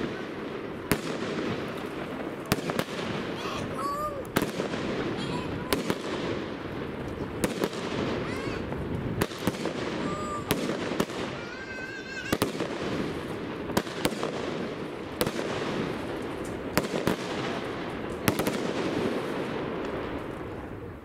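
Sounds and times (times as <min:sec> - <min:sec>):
rushing crackle of fireworks: 0:00.0 - 0:21.0.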